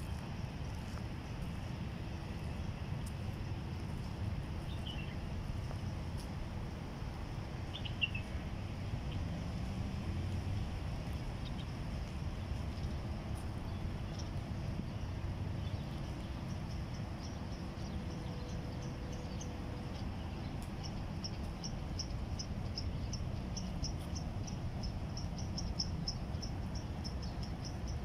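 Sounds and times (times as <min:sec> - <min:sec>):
low steady rumble: 0:00.0 - 0:28.0.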